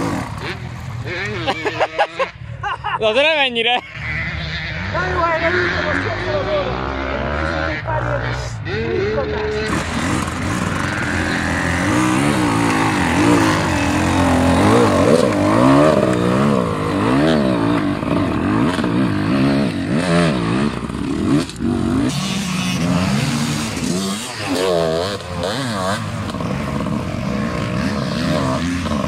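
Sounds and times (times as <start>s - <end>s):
motorcycle engine revving: 0.0s - 2.4s, 3.8s - 29.0s.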